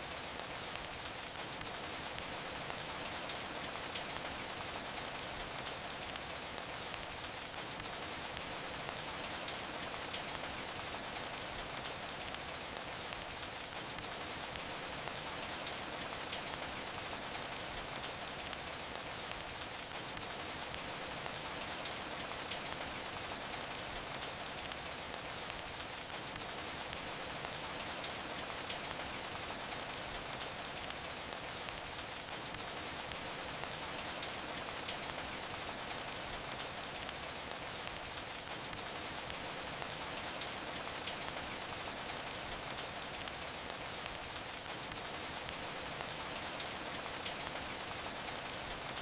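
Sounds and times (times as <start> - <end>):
steady rain falling: 0.0 - 49.0
wood fire crackling: 0.0 - 49.0.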